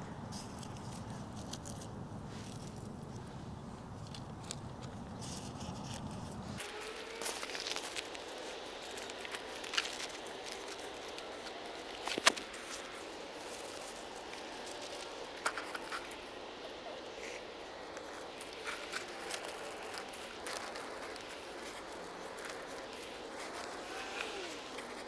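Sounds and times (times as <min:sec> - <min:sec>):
gravel crunching underfoot: 0:00.3 - 0:25.0.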